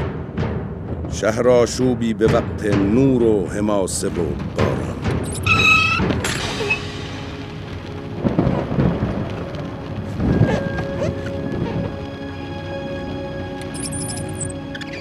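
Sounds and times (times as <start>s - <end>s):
music: 0.0s - 15.0s
thunder rumbling: 1.0s - 14.5s
steady rain: 2.3s - 15.0s.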